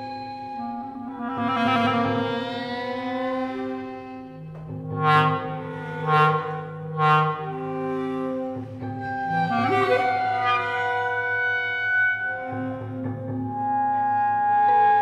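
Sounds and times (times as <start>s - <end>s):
contemporary chamber music: 0.0s - 15.0s.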